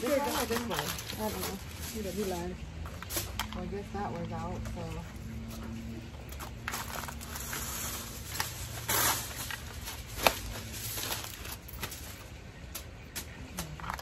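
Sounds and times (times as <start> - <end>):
aluminium foil crinkling: 0.0 - 14.0.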